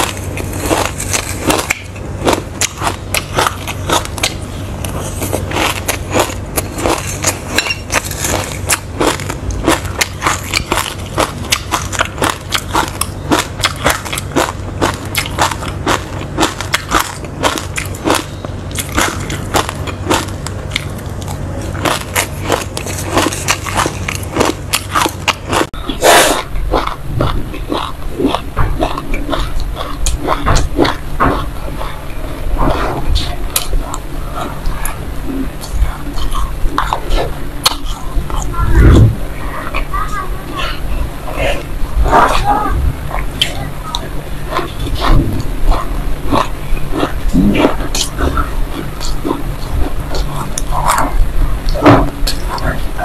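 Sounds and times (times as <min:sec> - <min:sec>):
crunchy chewing of seeds: 0:00.0 - 0:53.0
steady low hum: 0:00.0 - 0:53.0.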